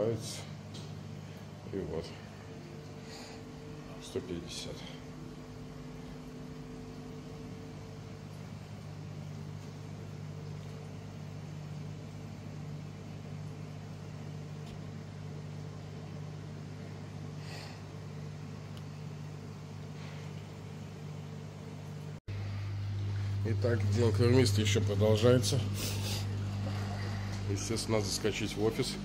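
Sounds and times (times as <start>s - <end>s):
aquarium equipment humming: 0.0s - 29.0s.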